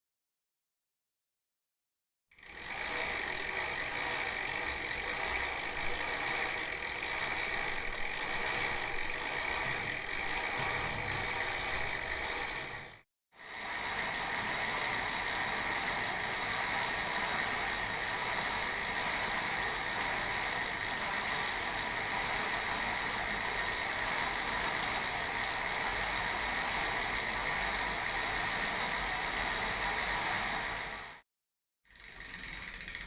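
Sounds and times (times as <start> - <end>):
bicycle chain whirring: 2.3 - 31.2, 31.9 - 33.0.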